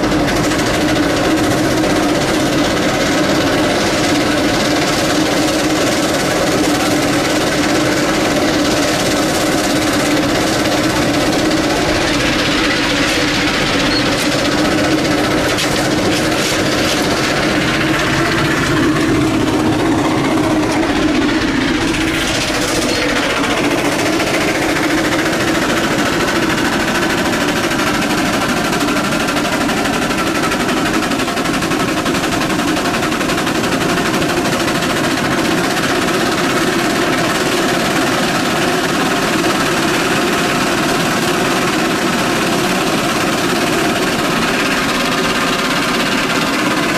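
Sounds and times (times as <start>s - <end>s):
steam engine exhaust chuffing: 0.0s - 46.9s.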